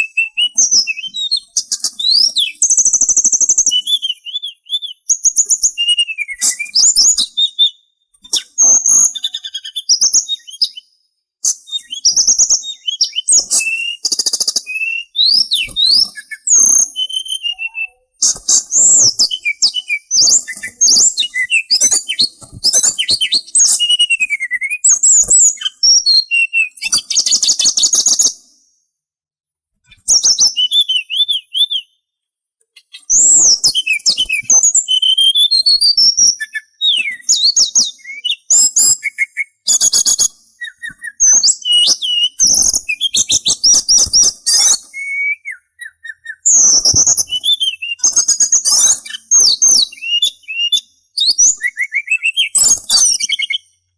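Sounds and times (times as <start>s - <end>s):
songbird whistling and trilling: 0.0s - 28.8s, 29.9s - 32.1s, 32.8s - 53.8s.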